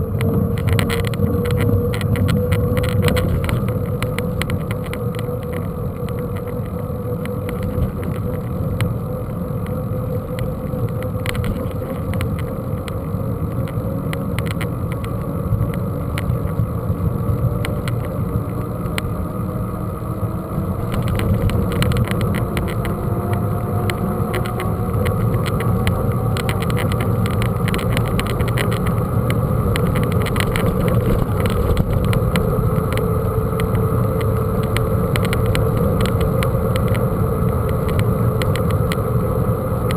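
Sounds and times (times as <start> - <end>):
rolling noise: 0.0 - 39.9
small rattles and clicks: 0.0 - 39.9
wind rumble: 0.0 - 39.9.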